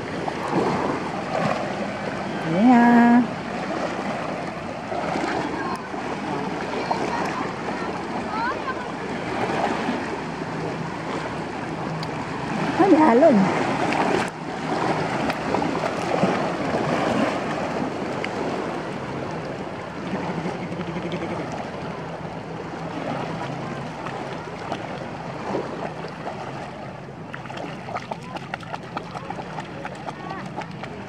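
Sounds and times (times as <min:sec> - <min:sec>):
feet and paws wading in water: 0:00.0 - 0:31.0.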